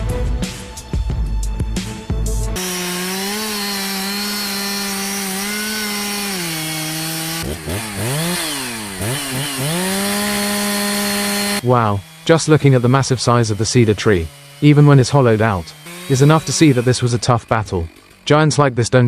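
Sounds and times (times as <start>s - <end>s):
chainsaw cutting wood: 2.6s - 19.0s.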